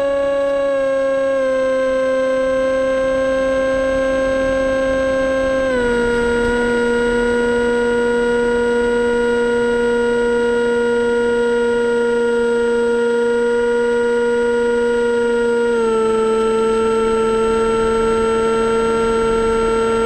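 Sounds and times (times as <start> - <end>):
model plane electric motor whine: 0.0 - 20.0.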